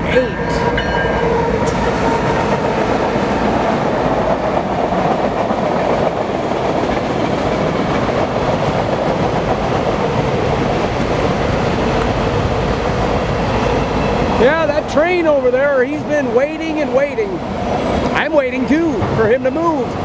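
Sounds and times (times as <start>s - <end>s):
freight train wheels on rail: 0.0s - 20.0s.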